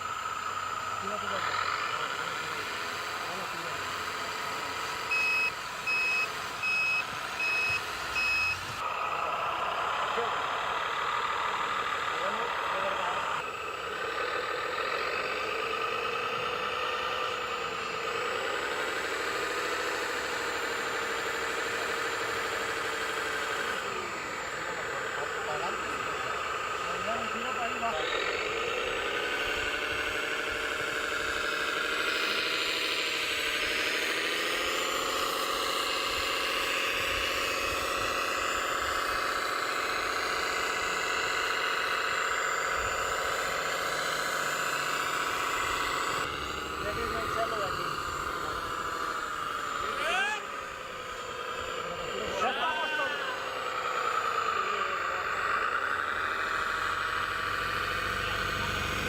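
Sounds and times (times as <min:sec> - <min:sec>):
toy truck electric motor whining: 0:00.0 - 0:59.0.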